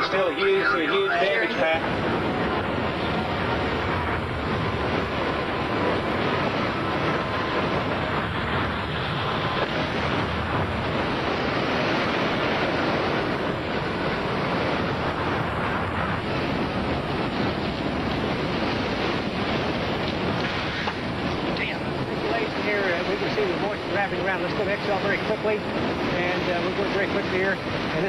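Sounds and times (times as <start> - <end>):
strong storm wind rushing: 0.0 - 28.0.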